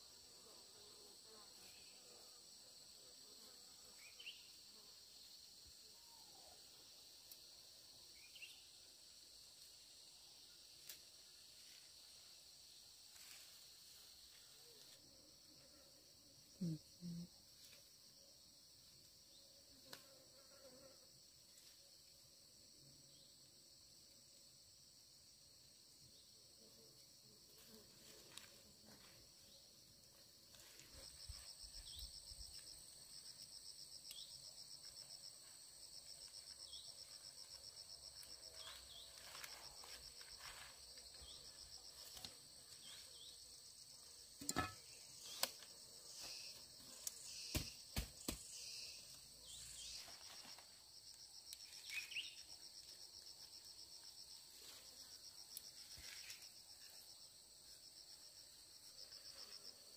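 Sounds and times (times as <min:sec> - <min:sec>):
insects trilling: 0:03.4 - 0:21.7, 0:25.6 - 0:59.9.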